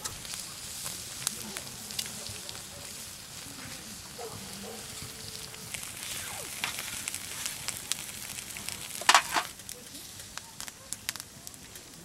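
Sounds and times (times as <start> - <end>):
scallops sizzling on grill: 0.0 - 12.0
wood fire crackling and popping: 0.0 - 12.0.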